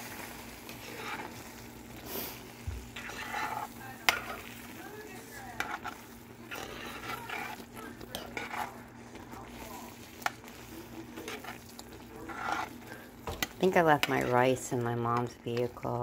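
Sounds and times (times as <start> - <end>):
sausages sizzling in a pan: 0.0 - 16.0.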